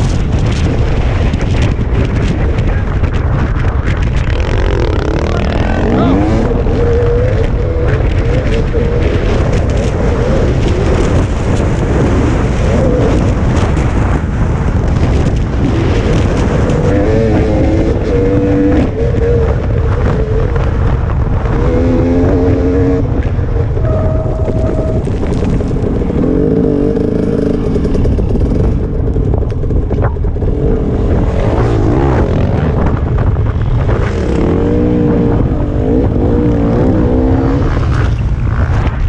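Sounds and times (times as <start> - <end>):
wind buffeting microphone: 0.0 - 39.0
dirt bike engine revving: 4.2 - 25.1, 26.0 - 29.0, 30.2 - 38.7.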